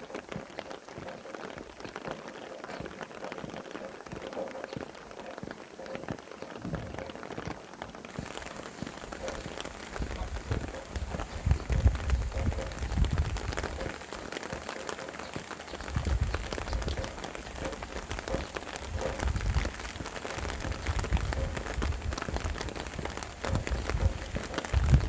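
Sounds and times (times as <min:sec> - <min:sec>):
rain pattering: 0:00.0 - 0:25.0
wind rumbling on microphone: 0:00.4 - 0:25.0.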